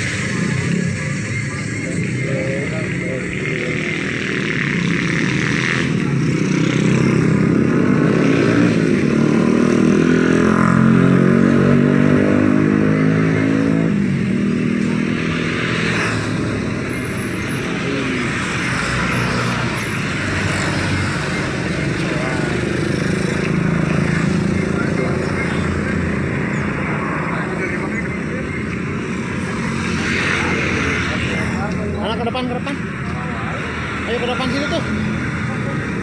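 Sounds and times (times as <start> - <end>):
street noise: 0.0 - 36.0.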